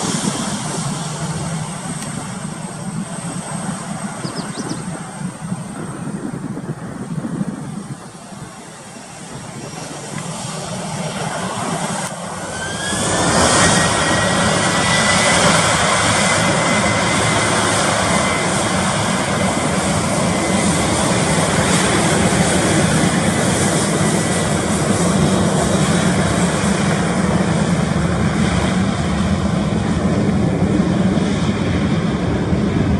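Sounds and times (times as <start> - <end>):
jet engine whine: 0.0 - 32.9
jet engines roaring: 0.0 - 32.9.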